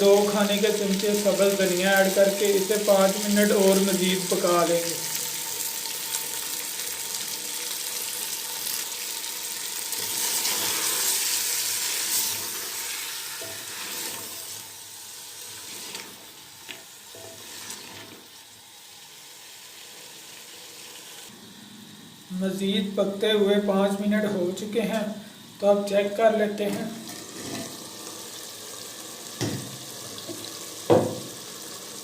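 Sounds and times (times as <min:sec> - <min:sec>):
curry sizzling in a pot: 0:00.0 - 0:32.0.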